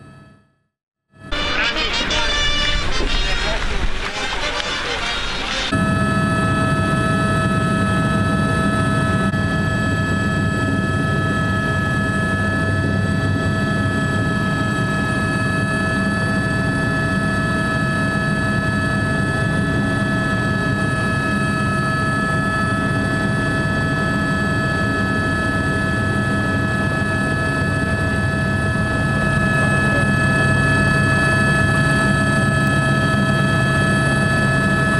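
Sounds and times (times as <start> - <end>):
high machine whine: 1.2 - 34.9.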